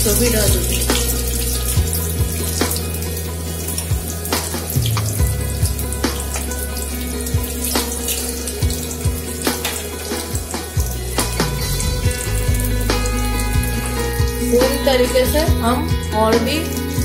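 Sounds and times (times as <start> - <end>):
deep-frying hiss: 0.0 - 17.0.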